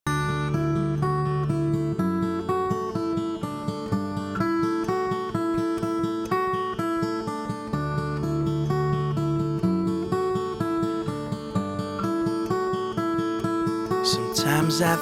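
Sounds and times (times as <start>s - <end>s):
acoustic guitar picking: 0.1s - 15.0s.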